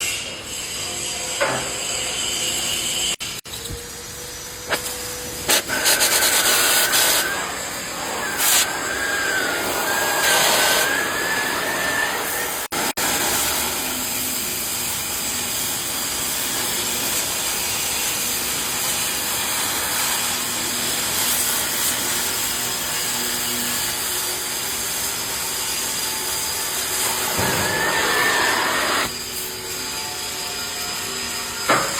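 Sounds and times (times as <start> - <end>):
cutting torch hissing: 0.0 - 31.9.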